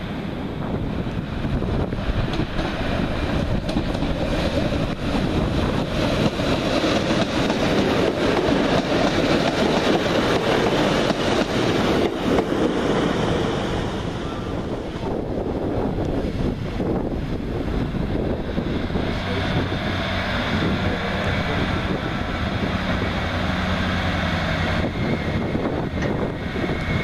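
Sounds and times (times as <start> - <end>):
diesel train engines running: 0.0 - 27.0
train wheels rumbling on rails: 0.0 - 27.0.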